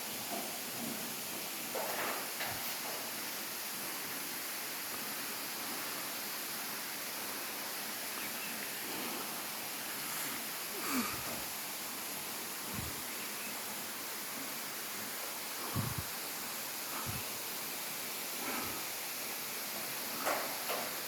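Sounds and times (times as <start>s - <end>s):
waterfall rushing hiss: 0.0s - 21.0s.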